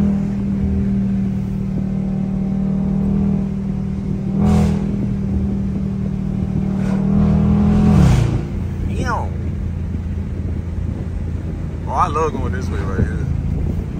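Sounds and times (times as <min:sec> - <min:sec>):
car engine running hard: 0:00.0 - 0:13.9.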